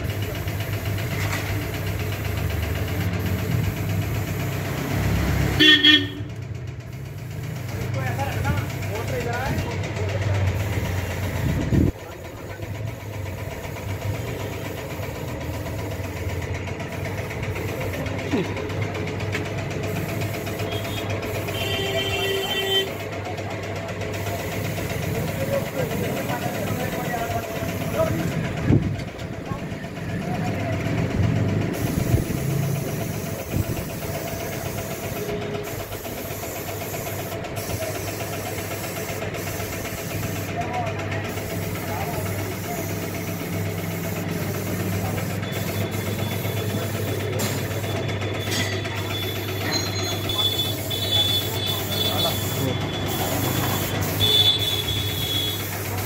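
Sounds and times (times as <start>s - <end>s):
industrial washing machine running: 6.2s - 56.0s.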